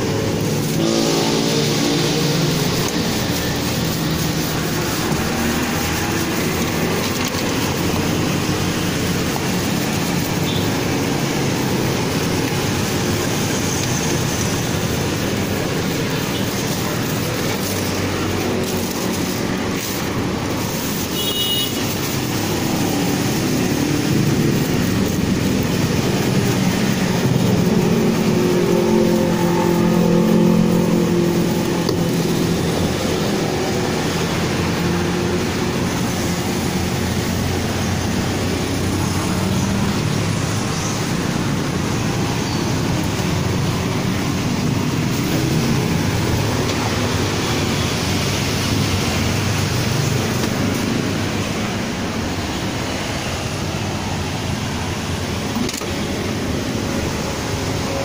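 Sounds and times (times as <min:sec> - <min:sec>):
vehicle engine passing: 0:00.0 - 0:20.8, 0:22.1 - 0:53.2
traffic noise: 0:00.0 - 0:58.0.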